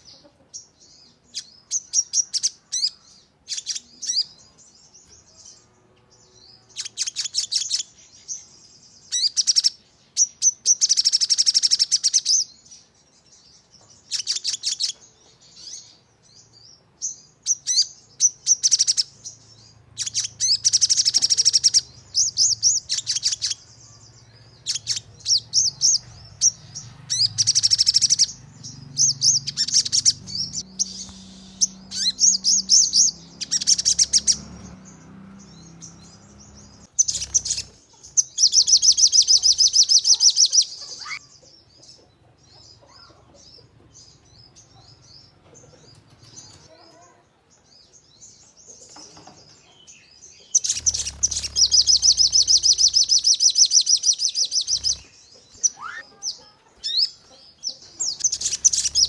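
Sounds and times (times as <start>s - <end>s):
sunbird singing high chirps: 0.0s - 41.4s, 49.6s - 59.0s.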